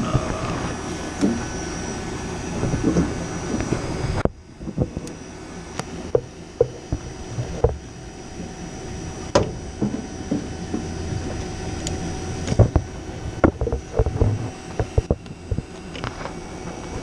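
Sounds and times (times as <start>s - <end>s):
hvac mechanical hum: 0.0s - 17.0s.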